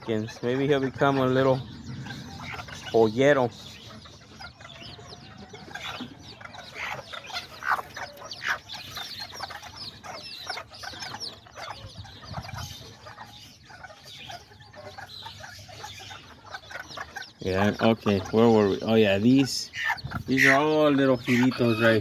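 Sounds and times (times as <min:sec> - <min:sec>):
chicks peeping: 0:00.0 - 0:22.0
hens clucking: 0:00.0 - 0:22.0.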